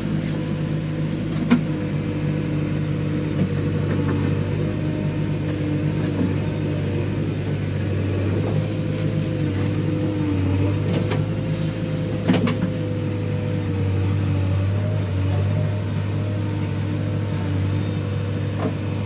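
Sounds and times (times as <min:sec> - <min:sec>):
diesel engine running steadily: 0:00.0 - 0:19.0
high engine whine: 0:00.0 - 0:19.0.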